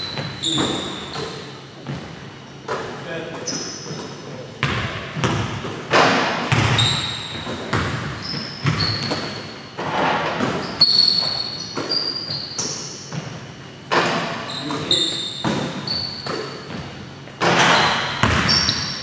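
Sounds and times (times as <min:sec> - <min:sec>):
basketballs bouncing on hardwood: 0:00.0 - 0:02.9, 0:03.8 - 0:09.5, 0:10.4 - 0:19.0
sneaker squeaks: 0:00.0 - 0:05.8, 0:06.4 - 0:19.0.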